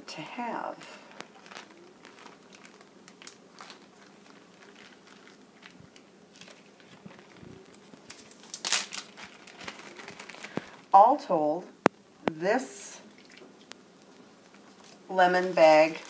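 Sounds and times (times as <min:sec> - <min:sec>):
small crackles and clicks: 0:00.8 - 0:10.9, 0:13.1 - 0:16.0
plastic bags crinkling: 0:00.8 - 0:11.0, 0:13.0 - 0:16.0.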